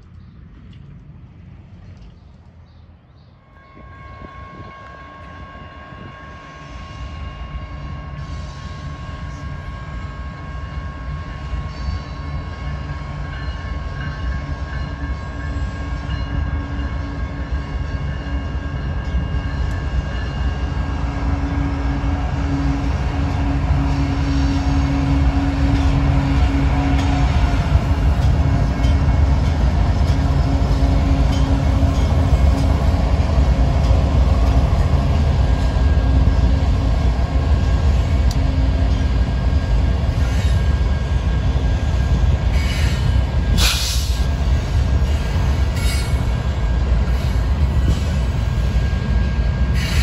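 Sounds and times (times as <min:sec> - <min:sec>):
train rumbling: 0:00.0 - 0:50.0.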